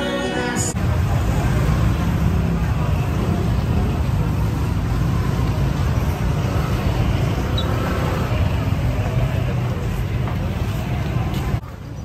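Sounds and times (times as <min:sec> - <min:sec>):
busy street traffic rumble: 0:00.0 - 0:12.0.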